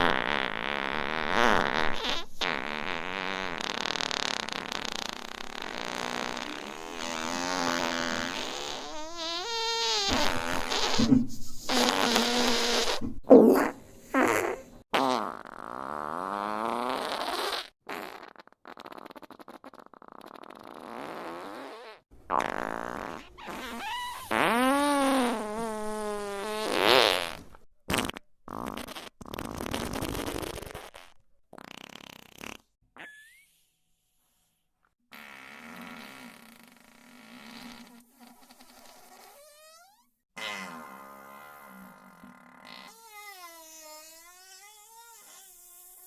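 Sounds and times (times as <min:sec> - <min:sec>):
fart sound effects: 0:00.0 - 0:33.6, 0:35.1 - 0:46.0.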